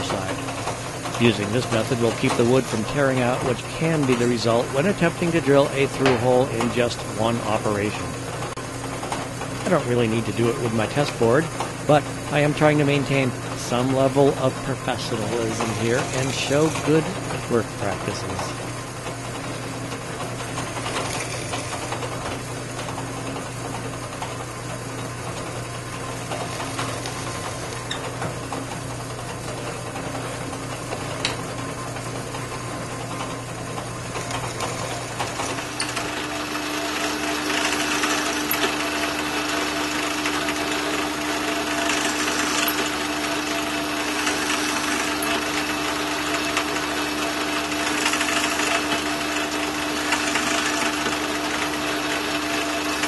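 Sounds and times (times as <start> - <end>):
drill press boring into wood: 0.0 - 53.0.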